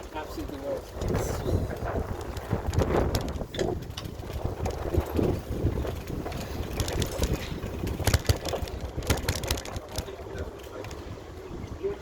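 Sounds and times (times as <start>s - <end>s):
bicycle clicks and rattles: 0.0s - 11.6s
wind buffeting microphone: 0.0s - 12.0s.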